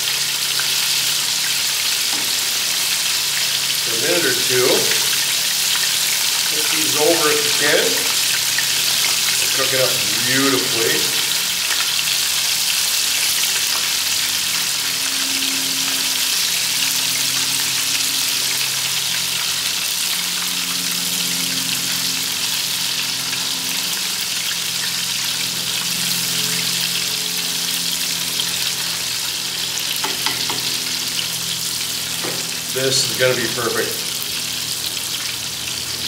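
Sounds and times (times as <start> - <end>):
oil sizzling while deep-frying: 0.0 - 36.0.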